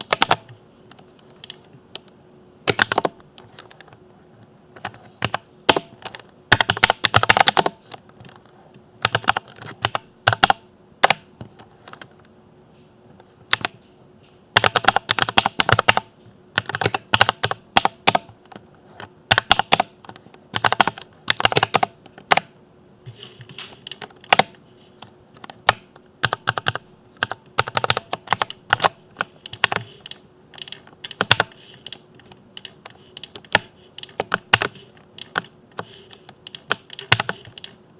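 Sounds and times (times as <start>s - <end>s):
mechanical keyboard typing: 0.0s - 0.6s, 1.2s - 2.1s, 2.7s - 3.9s, 4.8s - 8.4s, 9.0s - 11.2s, 14.6s - 22.5s, 23.4s - 37.8s.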